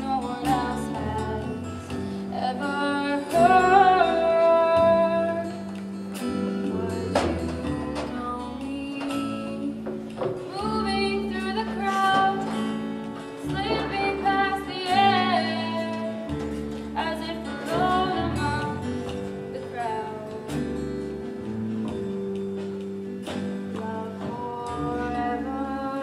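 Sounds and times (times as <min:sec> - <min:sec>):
woman singing with vibrato: 0:00.0 - 0:20.9, 0:23.7 - 0:26.0
guitar: 0:00.0 - 0:26.0.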